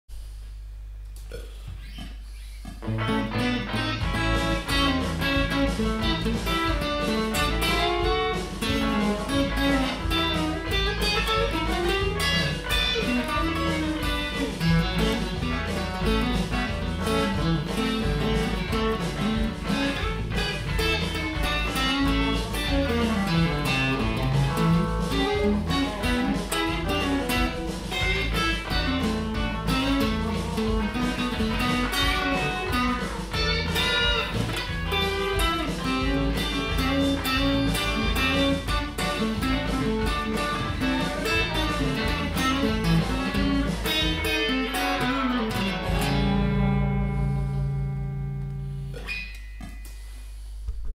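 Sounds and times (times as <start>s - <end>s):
bass and beat: 0.1s - 50.9s
electric guitar lead lines: 1.1s - 50.9s.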